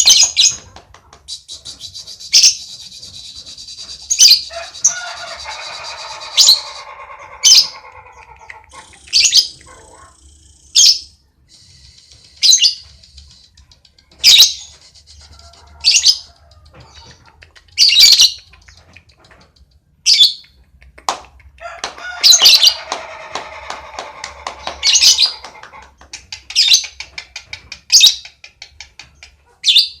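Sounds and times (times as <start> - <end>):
bird high chatter: 0.0 - 20.6, 22.0 - 29.5.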